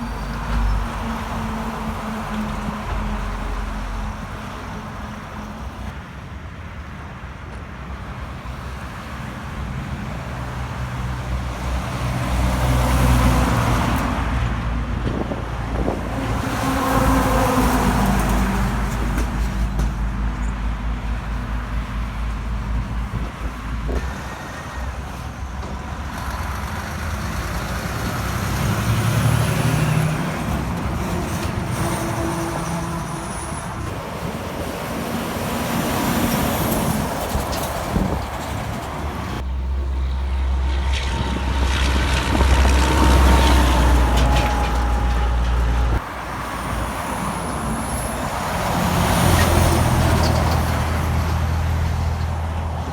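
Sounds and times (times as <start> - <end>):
highway traffic passing: 0.0 - 52.9.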